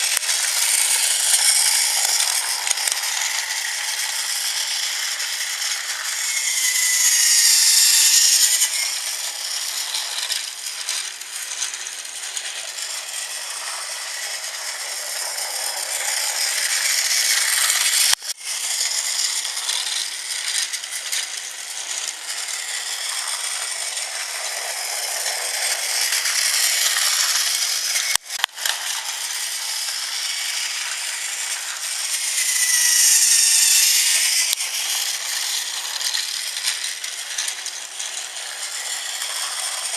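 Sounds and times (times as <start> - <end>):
toy train motor whirring: 0.0 - 39.9
toy train wheels rattling: 0.0 - 39.9.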